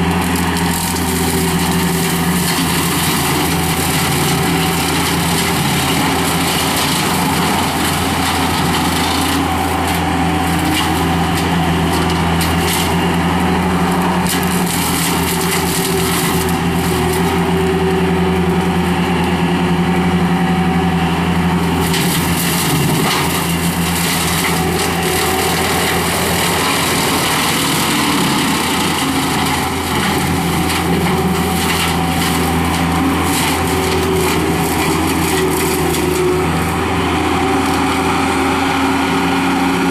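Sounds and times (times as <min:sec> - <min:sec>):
loader engine running at high revs: 0:00.0 - 0:39.9.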